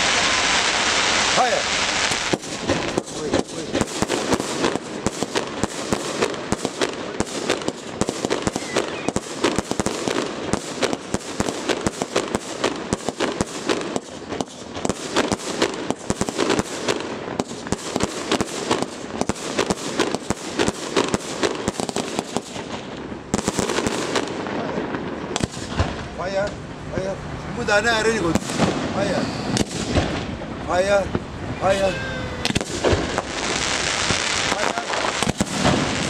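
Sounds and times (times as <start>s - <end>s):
fireworks bangs: 0.0s - 36.0s
fireworks crackle: 0.0s - 36.0s.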